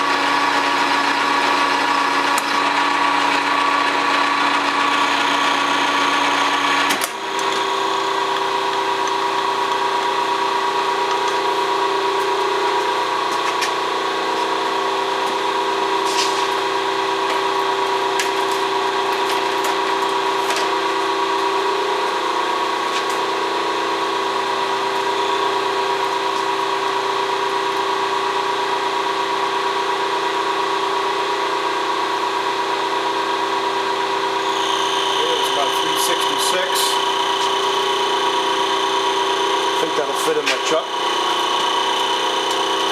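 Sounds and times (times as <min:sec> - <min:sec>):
lathe drive humming: 0:00.0 - 0:42.9.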